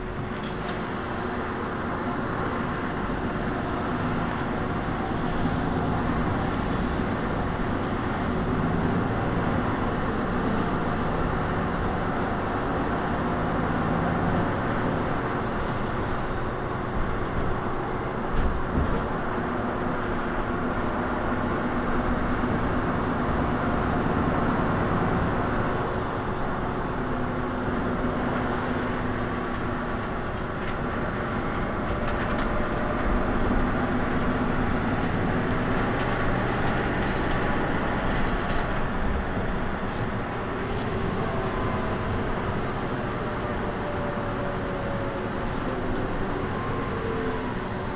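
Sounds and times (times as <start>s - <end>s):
bus engine idling: 0.0s - 47.9s.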